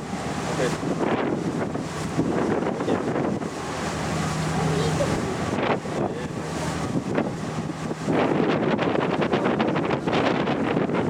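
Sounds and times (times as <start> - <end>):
boat engine running: 0.0 - 11.0
rushing water: 0.0 - 11.0
wind buffeting microphone: 0.0 - 11.0.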